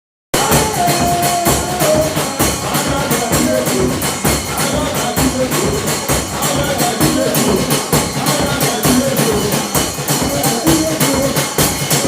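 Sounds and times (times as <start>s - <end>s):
upbeat music with drum beat: 0.3s - 12.0s.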